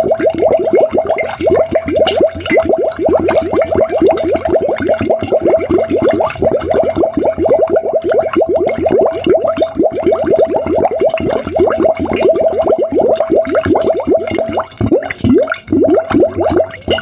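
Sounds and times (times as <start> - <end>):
water bubbling: 0.0 - 17.0.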